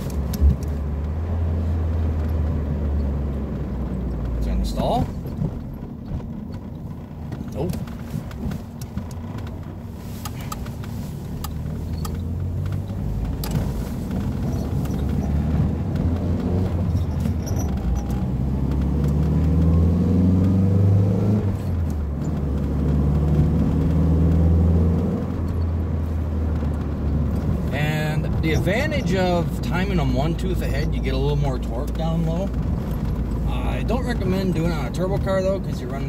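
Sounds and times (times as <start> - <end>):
car engine accelerating hard: 0.0 - 36.0.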